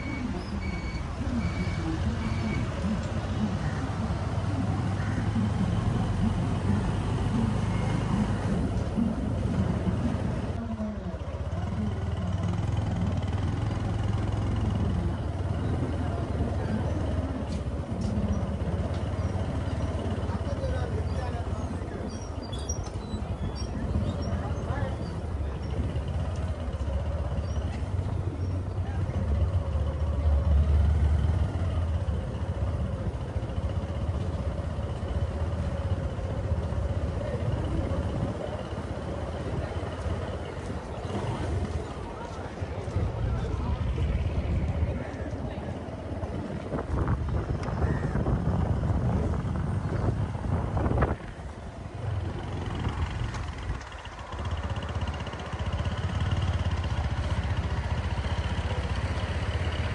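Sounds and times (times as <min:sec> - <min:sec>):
outdoor street ambience: 0:00.0 - 0:59.9
small motorbike engine running: 0:00.7 - 0:59.9.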